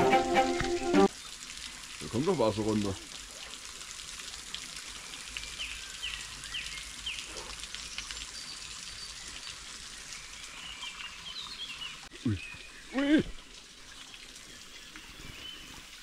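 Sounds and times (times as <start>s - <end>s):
small waterfall splashing: 0.0s - 16.0s.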